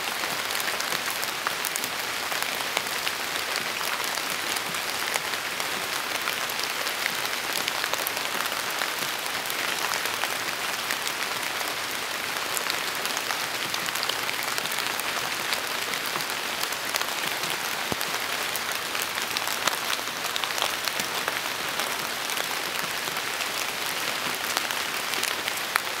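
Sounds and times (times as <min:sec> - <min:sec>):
rain pattering on tree leaves: 0:00.0 - 0:26.0.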